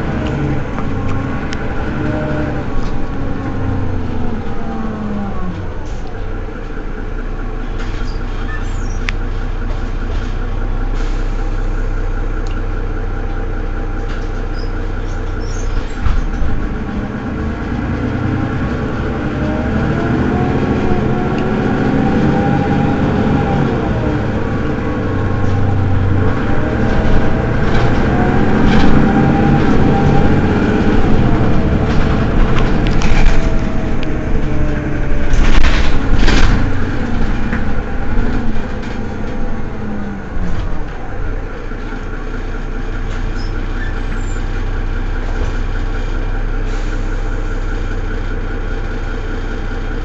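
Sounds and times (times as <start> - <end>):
bus engine idling: 0.0 - 50.0.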